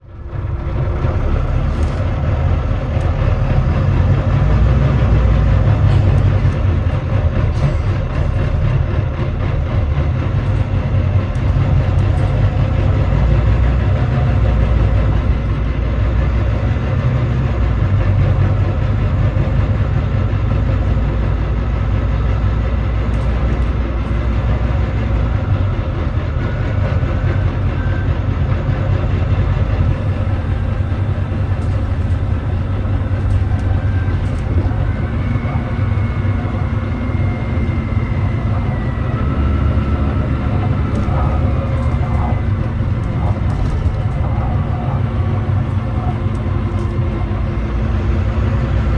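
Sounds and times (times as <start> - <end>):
diesel bus engine droning: 0.0 - 48.9.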